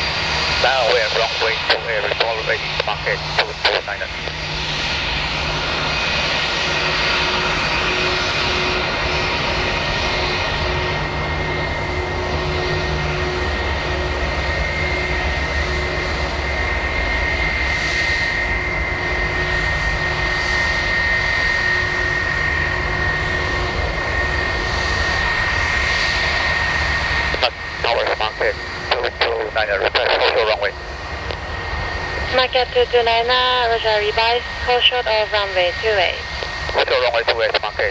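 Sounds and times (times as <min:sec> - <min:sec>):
jet engines idling with whine: 0:00.0 - 0:37.9.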